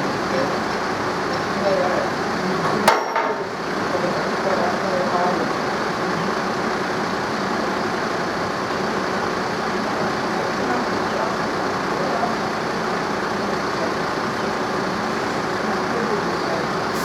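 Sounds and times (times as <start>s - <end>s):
engine idling: 0.0s - 17.0s
indistinct voices: 0.0s - 17.0s.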